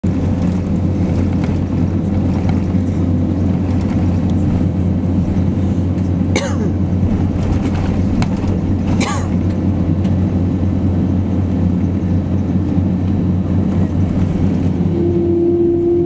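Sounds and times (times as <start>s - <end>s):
aircraft cabin rumble: 0.0s - 16.0s.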